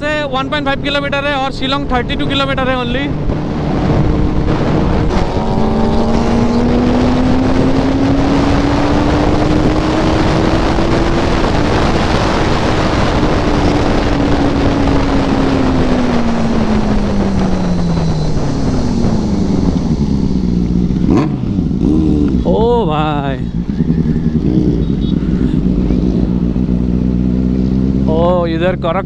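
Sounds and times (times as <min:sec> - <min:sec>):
wind rushing over microphone: 0:00.0 - 0:28.2
motorcycle engine under way: 0:00.0 - 0:29.0.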